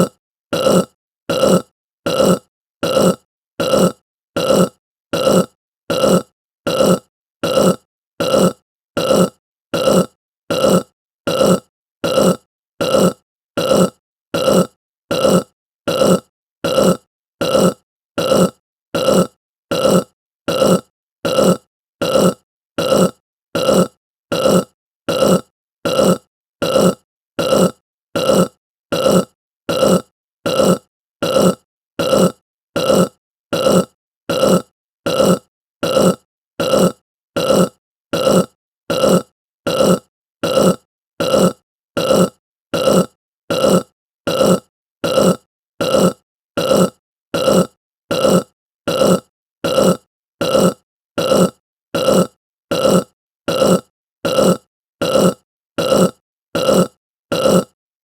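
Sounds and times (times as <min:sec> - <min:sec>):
person burping: 0:00.0 - 0:57.8.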